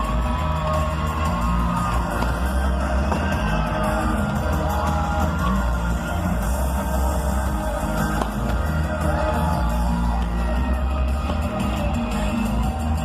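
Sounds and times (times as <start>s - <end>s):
crowd yelling: 0.0s - 13.0s
live pop music with heavy bass: 0.0s - 13.0s.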